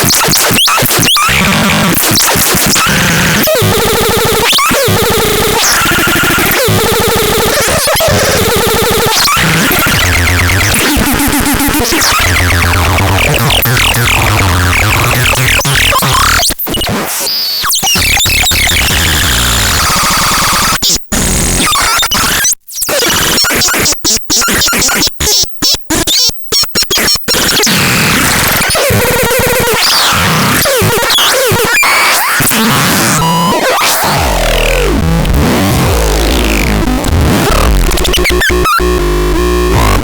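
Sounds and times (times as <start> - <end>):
harsh electronic noise music: 0.0 - 16.9, 17.7 - 25.1, 27.0 - 40.0.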